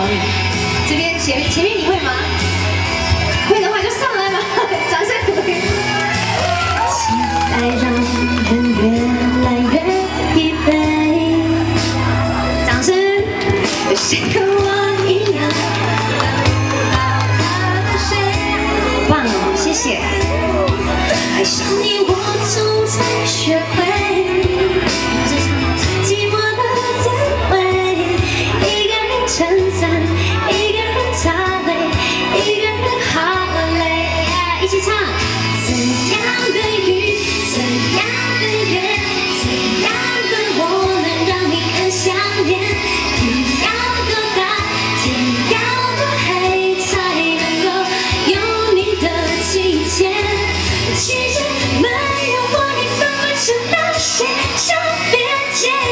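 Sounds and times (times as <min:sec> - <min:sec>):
bass line and drum beat: 0:00.0 - 0:55.9
woman singing pop ballad: 0:00.0 - 0:55.9.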